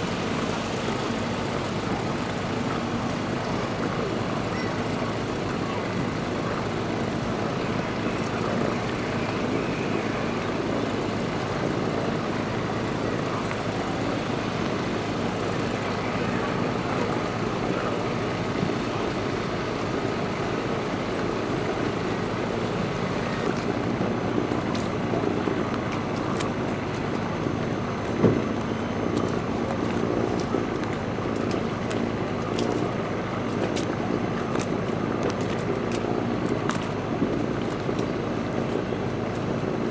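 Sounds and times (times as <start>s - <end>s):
motor rumbling: 0.0s - 39.9s.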